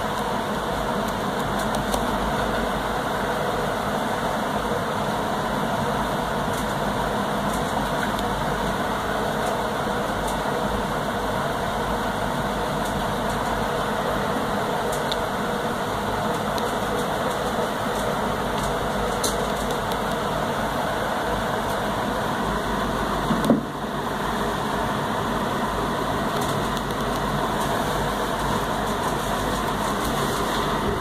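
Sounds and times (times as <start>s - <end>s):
mechanical hum: 0.0s - 31.0s
noisy hiss: 0.0s - 31.0s.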